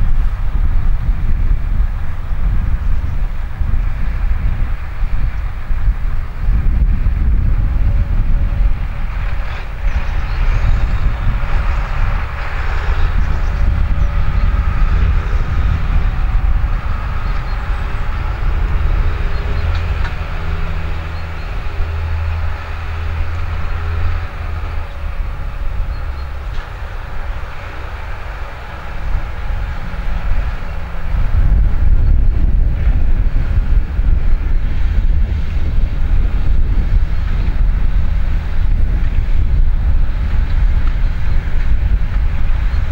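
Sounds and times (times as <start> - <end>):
tractor diesel engine droning: 0.0 - 42.9.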